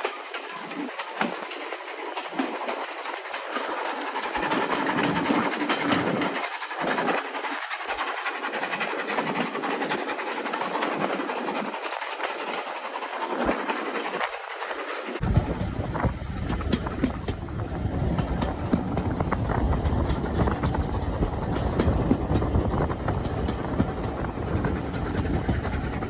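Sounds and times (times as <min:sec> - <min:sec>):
steam train rumbling: 0:00.0 - 0:26.0
wheels clicking over rail joints: 0:00.0 - 0:26.0.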